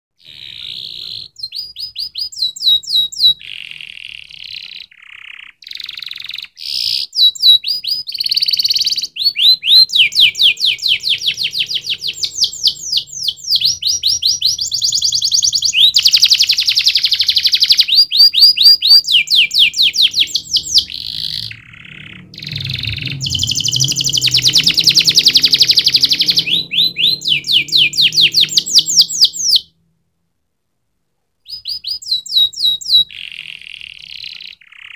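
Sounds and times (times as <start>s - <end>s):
canary singing: 0.2s - 29.8s, 31.4s - 34.9s.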